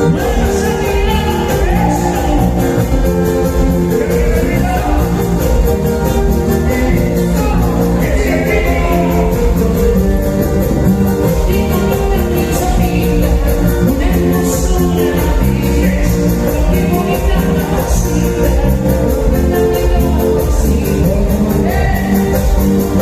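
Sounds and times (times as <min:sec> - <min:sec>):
latin dance music with singing: 0:00.0 - 0:23.0.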